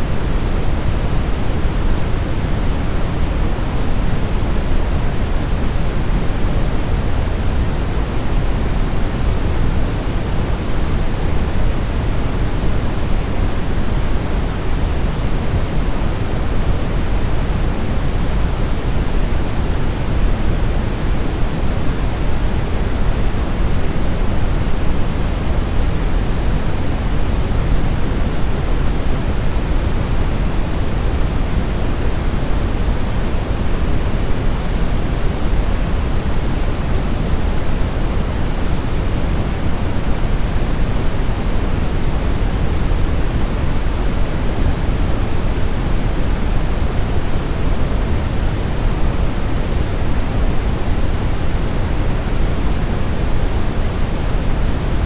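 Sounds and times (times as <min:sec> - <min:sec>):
steady brown noise: 0:00.0 - 0:55.0.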